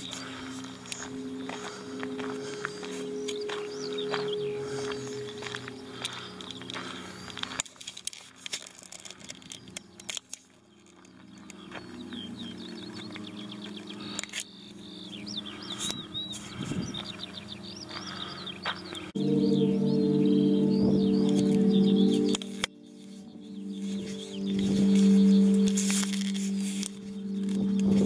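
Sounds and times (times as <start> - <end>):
songbird chirps and trills: 0.0 - 28.0.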